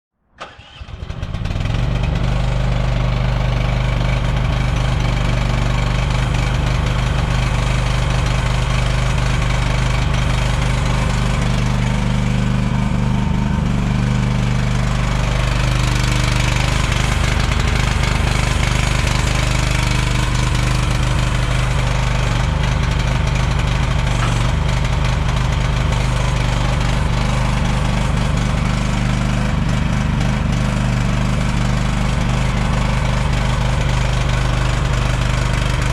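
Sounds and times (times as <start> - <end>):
mini excavator engine running: 0.4 - 35.9.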